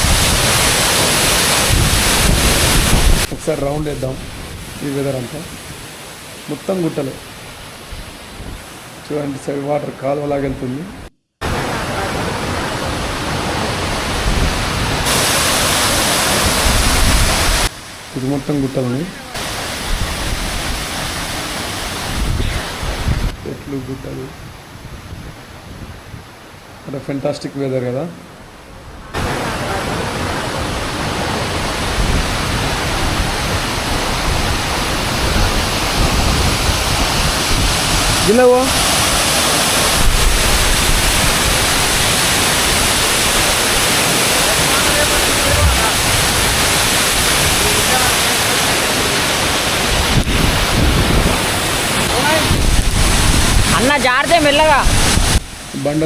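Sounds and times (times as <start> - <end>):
waterfall rushing water: 0.0 - 10.4, 11.4 - 23.3, 28.4 - 56.0.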